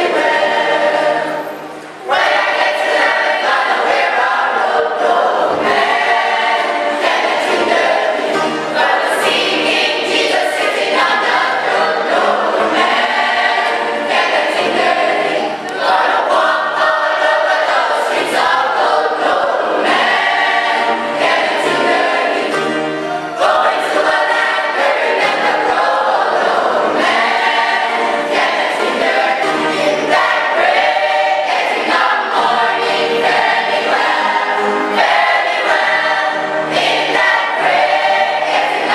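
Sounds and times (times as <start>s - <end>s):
choir singing gospel music: 0.0s - 38.9s.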